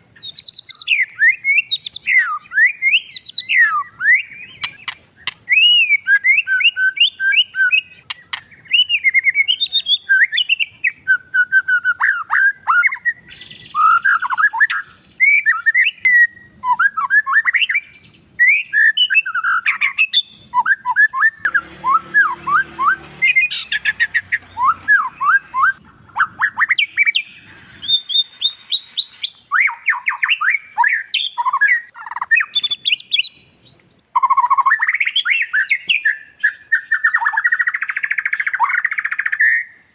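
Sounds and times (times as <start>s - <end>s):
songbird whistling and trilling: 0.2s - 33.6s, 34.2s - 39.8s.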